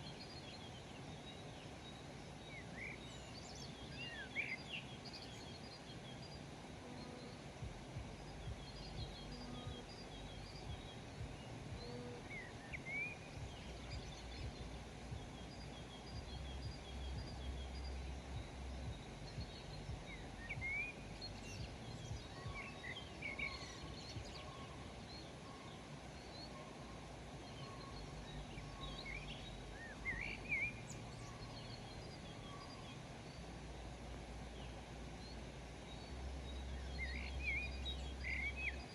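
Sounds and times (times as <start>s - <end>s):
low background rumble: 0.0s - 38.9s
small birds chirping: 0.0s - 38.9s.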